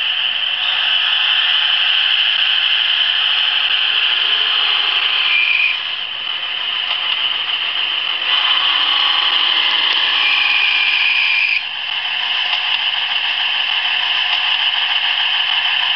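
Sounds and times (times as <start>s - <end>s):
model diesel engine through small speaker: 0.0s - 15.9s.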